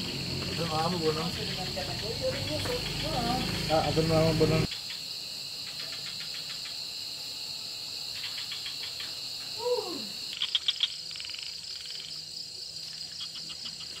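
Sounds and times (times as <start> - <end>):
rapid chirping pulses: 0.0 - 7.1, 7.8 - 14.0
crickets trilling: 0.0 - 14.0.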